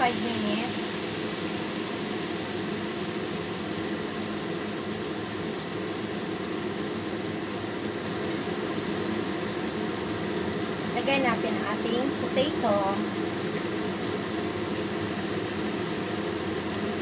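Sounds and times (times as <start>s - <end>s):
even hum: 0.0s - 17.0s
food sizzling in a wok: 0.0s - 17.0s.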